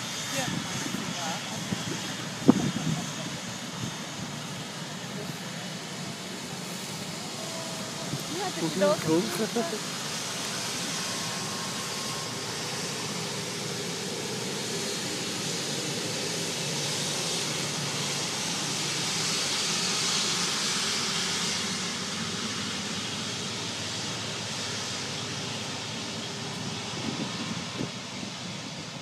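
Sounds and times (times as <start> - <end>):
jet engines taxiing: 0.0 - 29.0.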